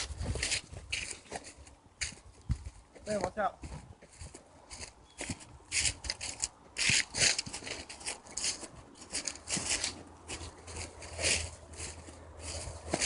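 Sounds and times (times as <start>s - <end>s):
brush rustling against clothing: 0.0s - 13.0s.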